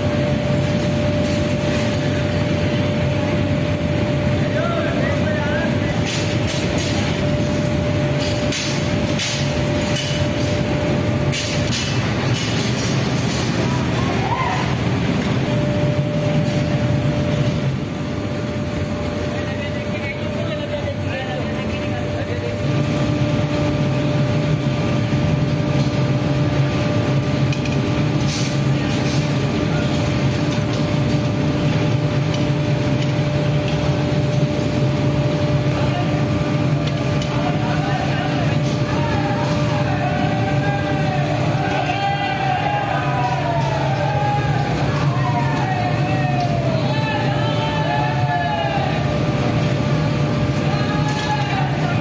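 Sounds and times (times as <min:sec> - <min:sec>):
furnace and fans roaring: 0:00.0 - 0:52.0
mechanical hum: 0:00.0 - 0:52.0.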